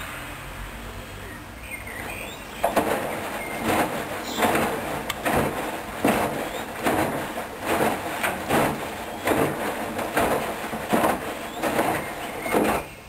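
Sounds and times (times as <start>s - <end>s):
washing machine drum tumbling laundry: 2.0s - 13.0s.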